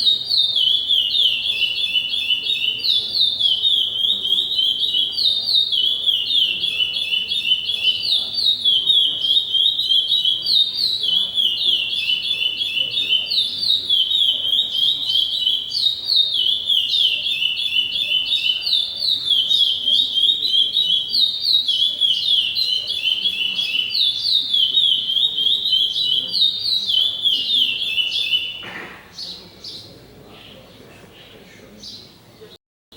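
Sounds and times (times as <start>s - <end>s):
songbird singing: 0.0s - 32.6s.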